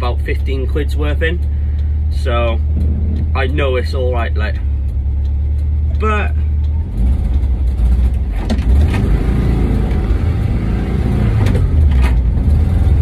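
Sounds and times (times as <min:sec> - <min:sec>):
van engine droning: 0:00.0 - 0:13.0.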